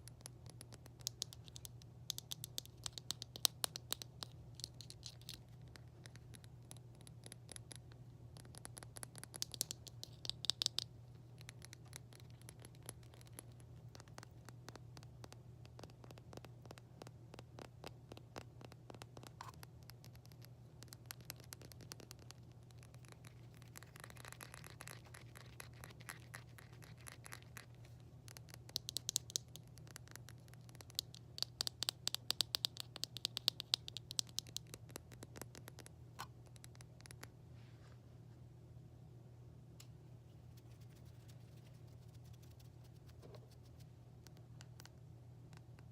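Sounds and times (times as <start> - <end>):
tapping and scratching on hard objects: 0.0 - 37.2
low steady hum: 0.0 - 45.9.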